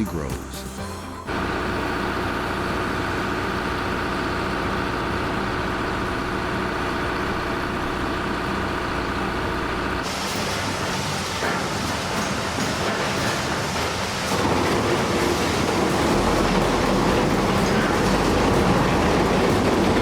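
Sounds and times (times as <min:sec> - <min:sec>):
diesel machinery engine running: 0:01.3 - 0:20.0.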